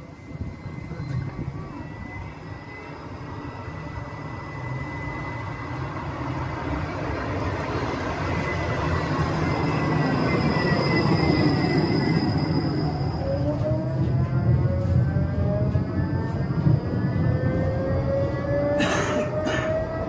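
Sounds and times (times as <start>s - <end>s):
electric tram running: 0.0s - 20.0s
high whine sliding down: 0.0s - 20.0s.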